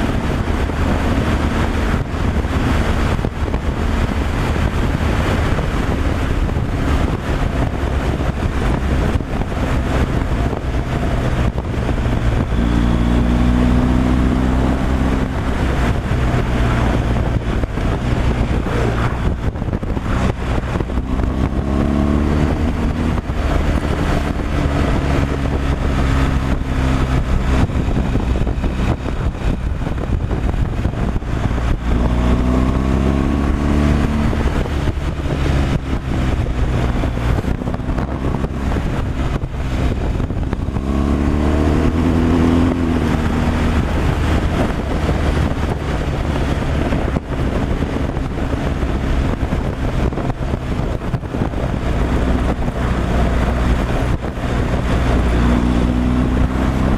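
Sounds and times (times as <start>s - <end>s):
tyre and wind noise: 0.0s - 56.9s
vehicle engine hum: 0.0s - 56.9s.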